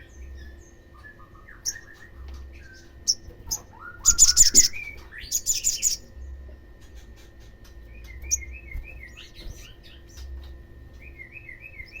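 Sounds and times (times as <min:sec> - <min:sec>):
bird twittering and chirping: 0:00.0 - 0:12.0.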